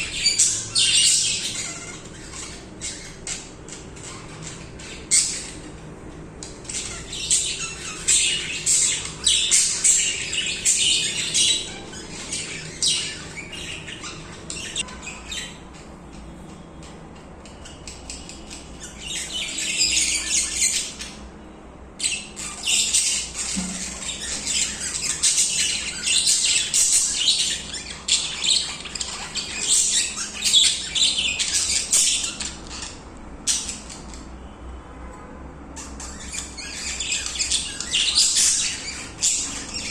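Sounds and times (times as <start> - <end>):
budgerigars chattering: 0.0 - 15.9, 17.5 - 21.3, 22.0 - 34.2, 35.8 - 39.9.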